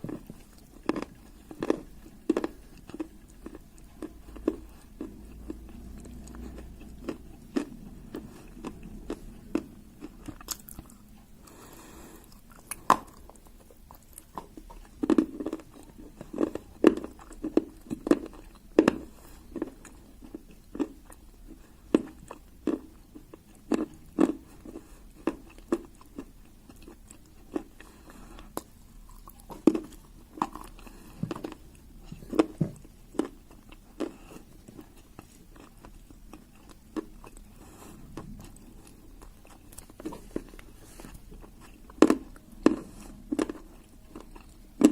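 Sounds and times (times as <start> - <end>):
dry clay crunching when chewed: 0.0 - 44.9.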